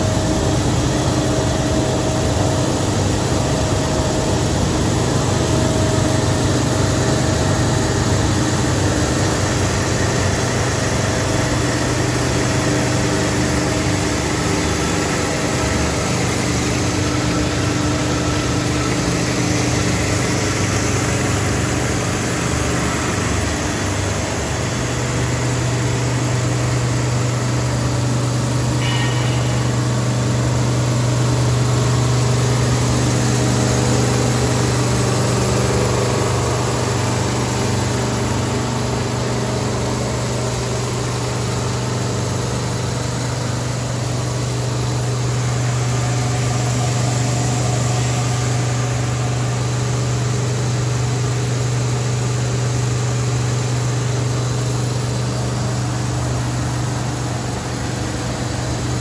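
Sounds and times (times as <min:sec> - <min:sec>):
constant mechanical noise: 0:00.0 - 0:59.0
loud electric motor hum: 0:00.0 - 0:59.0.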